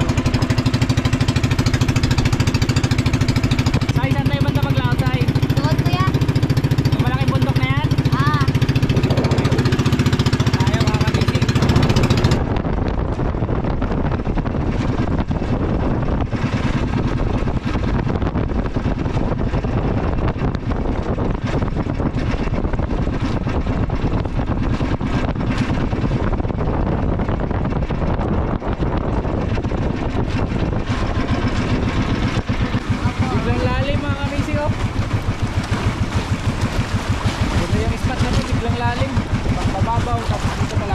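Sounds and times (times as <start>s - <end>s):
boat engine running: 0.0s - 40.9s
water rushing past hull: 0.0s - 40.9s
wind on microphone: 0.0s - 40.9s.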